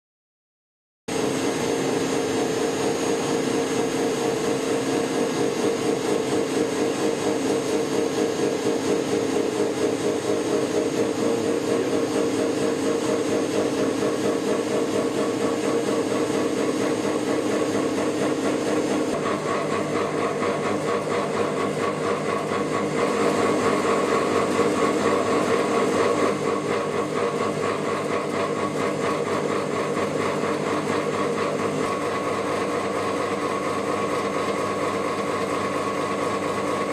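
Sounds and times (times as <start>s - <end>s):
gear hobbing machine hum: 1.1s - 36.9s
higher machine hum: 1.1s - 36.9s.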